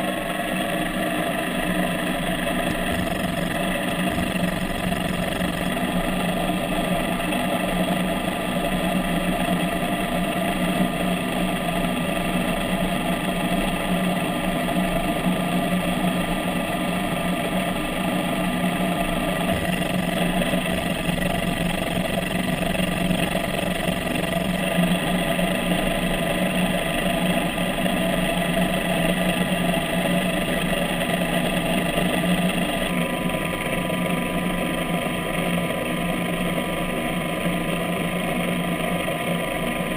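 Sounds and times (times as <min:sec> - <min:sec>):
underwater thruster motor humming: 0:00.0 - 0:39.9.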